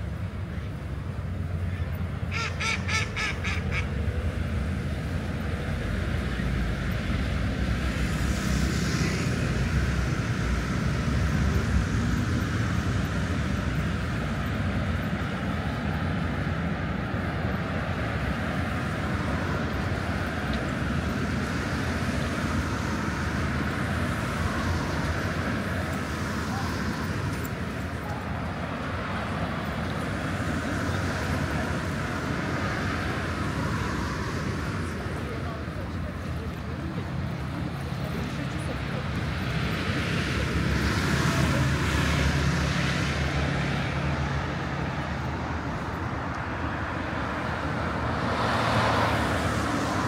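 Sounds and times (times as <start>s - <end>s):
low rumble of city traffic: 0.0s - 50.0s.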